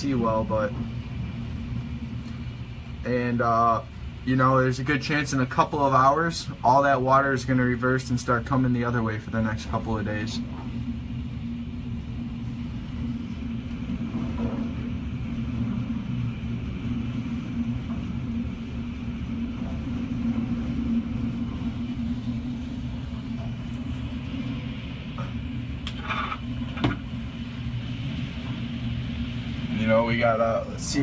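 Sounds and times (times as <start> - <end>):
low hum: 0.0 - 31.0
wind rumbling through window: 0.0 - 31.0.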